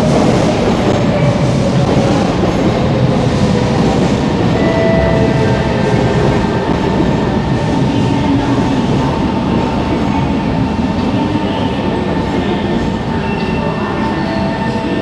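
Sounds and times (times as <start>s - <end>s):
higher train whine: 0.0s - 15.0s
train rumbling with hum: 0.0s - 15.0s.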